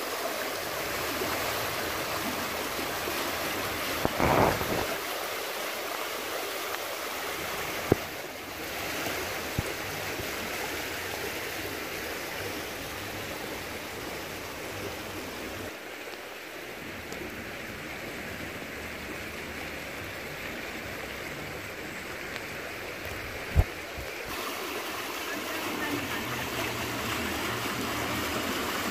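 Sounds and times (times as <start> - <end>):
floodwater rushing: 0.0 - 28.9.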